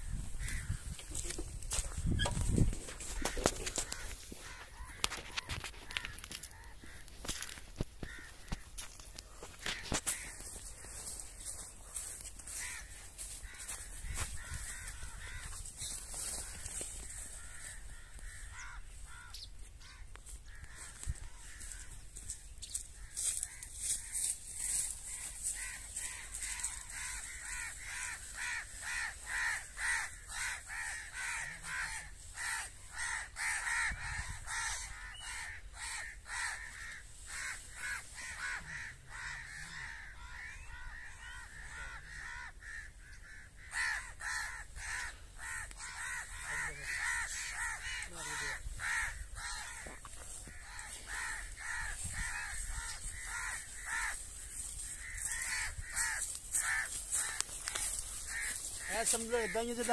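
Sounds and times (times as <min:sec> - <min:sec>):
crows cawing: 0:00.0 - 0:59.9.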